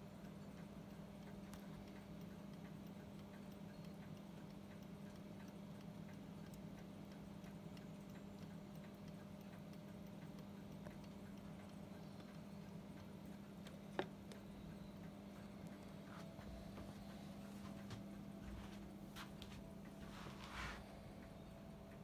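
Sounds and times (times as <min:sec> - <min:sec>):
mantel clock ticking: 0:00.0 - 0:22.0.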